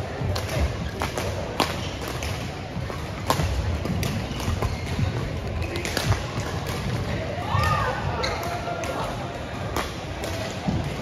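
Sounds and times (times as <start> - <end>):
rackets striking shuttlecocks: 0.2 - 11.0.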